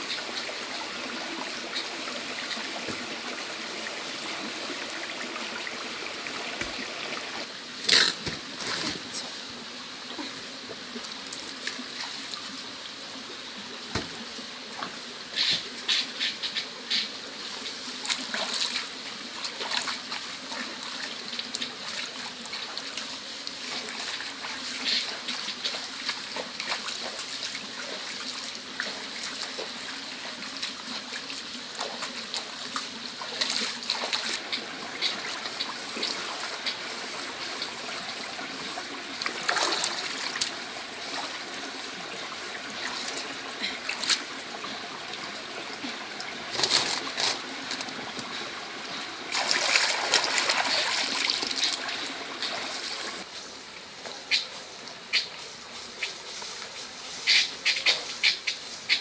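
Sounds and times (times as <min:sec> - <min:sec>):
splashing and dripping water: 0:00.0 - 0:09.3, 0:10.1 - 0:12.7, 0:13.6 - 0:53.3
stream running over rocks: 0:00.0 - 0:59.0.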